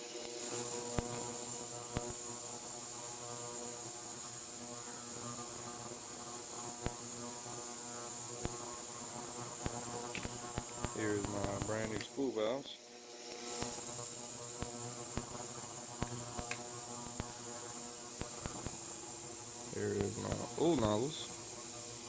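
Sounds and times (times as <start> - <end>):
electrical hum: 0.0 - 22.0
high hiss: 0.3 - 22.0.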